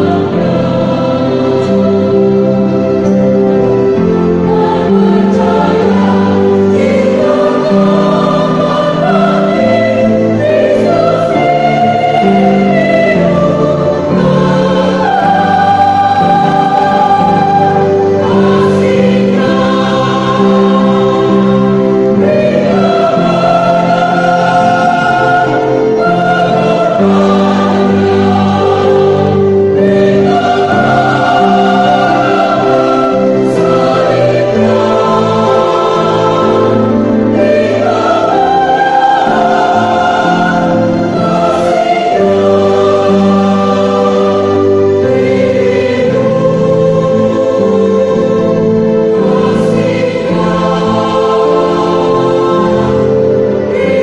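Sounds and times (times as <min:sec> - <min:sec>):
church choir singing: 0:00.0 - 0:54.0.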